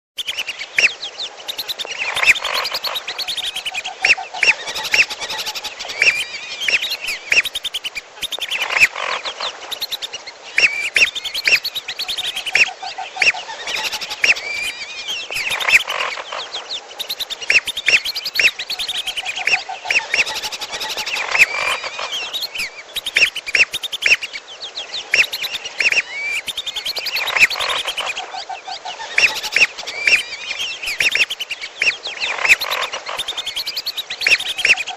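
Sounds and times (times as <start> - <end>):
lower trilling bird call: 0.2 - 28.2, 29.0 - 34.9
high whistles and chirps: 1.5 - 3.8, 4.4 - 8.9, 9.7 - 16.0, 17.0 - 24.4, 25.2 - 28.2, 29.2 - 34.8.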